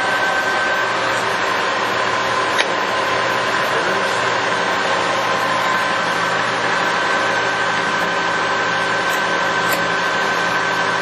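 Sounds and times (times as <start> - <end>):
lathe gearing whine: 0.0 - 11.0.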